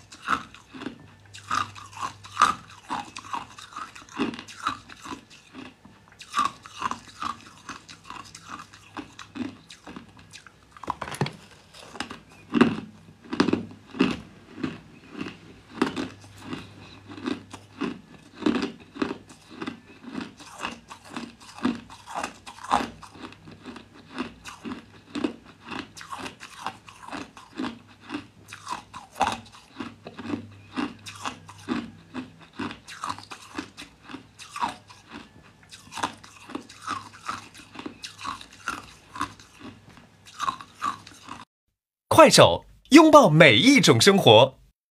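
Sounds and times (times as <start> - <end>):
chewing crushed ice: 0.0 - 41.5.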